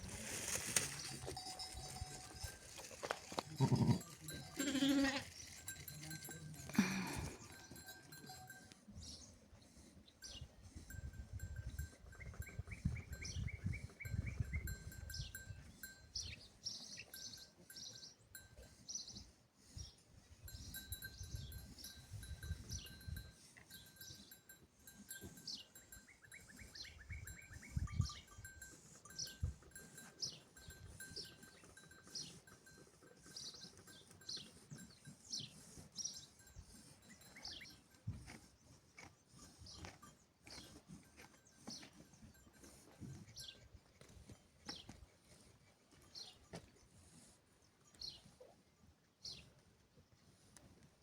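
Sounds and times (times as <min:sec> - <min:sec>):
livestock bells clinking: 0:00.1 - 0:19.2, 0:20.3 - 0:38.4, 0:39.0 - 0:44.2, 0:44.8 - 0:48.4.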